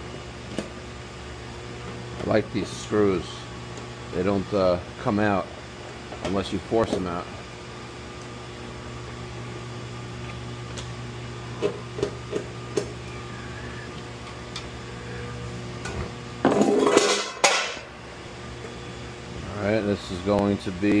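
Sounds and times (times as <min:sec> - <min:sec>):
low equipment hum: 0:00.0 - 0:21.0.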